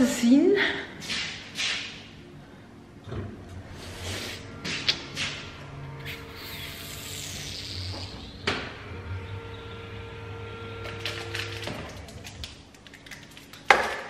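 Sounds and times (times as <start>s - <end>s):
steady hum: 0.0s - 12.8s.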